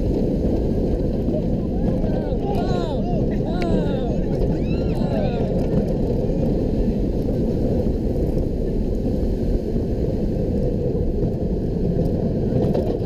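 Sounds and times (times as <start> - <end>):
roller coaster train rumbling: 0.0 - 13.0
wind rushing over microphone: 0.0 - 13.0.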